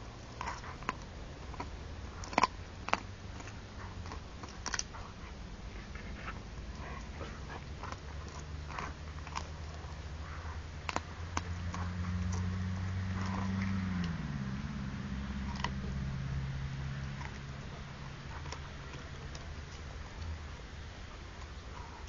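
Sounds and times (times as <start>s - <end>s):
dog gnawing on a bone: 0.0s - 22.0s
low drone: 0.0s - 22.0s.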